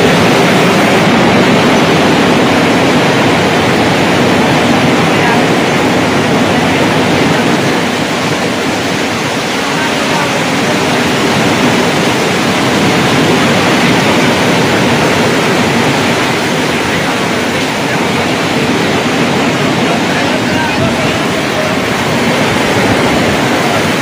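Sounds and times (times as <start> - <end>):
torrential rain and hail: 0.0 - 24.0.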